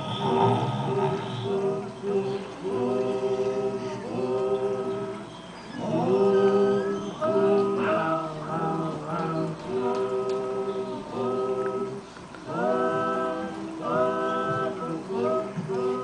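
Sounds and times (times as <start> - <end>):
choir singing a cappella: 0.0 - 16.0.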